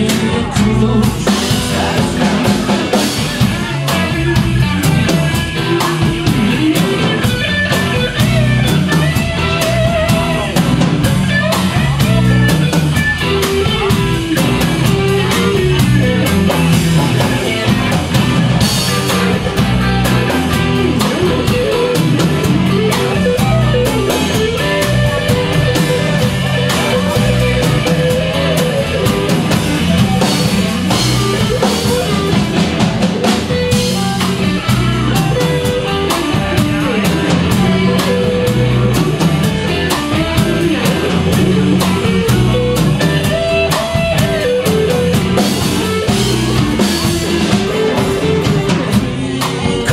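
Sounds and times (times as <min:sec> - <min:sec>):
bass guitar: 0:00.0 - 0:49.9
drum kit beat: 0:00.0 - 0:49.9
electric guitars: 0:00.0 - 0:49.9.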